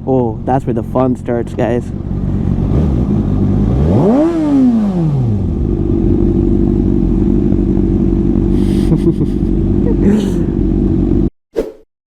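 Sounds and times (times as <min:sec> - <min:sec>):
motorcycle engine revving: 0:00.4 - 0:11.3.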